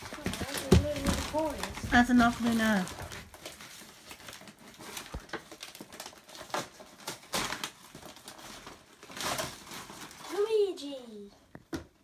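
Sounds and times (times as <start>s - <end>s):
wrapping paper tearing and crumpling: 0.0s - 11.3s.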